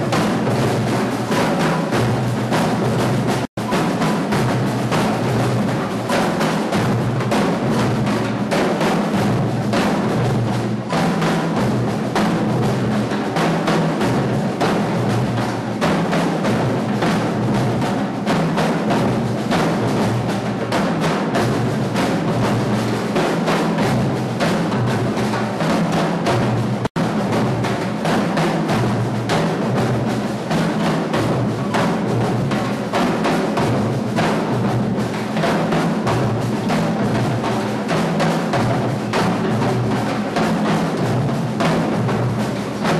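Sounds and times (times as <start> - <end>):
drums played fast: 0.0 - 42.9.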